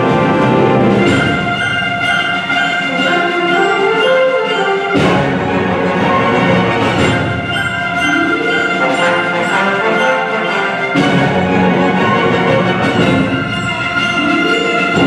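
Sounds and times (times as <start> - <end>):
orchestra playing: 0.0 - 15.0.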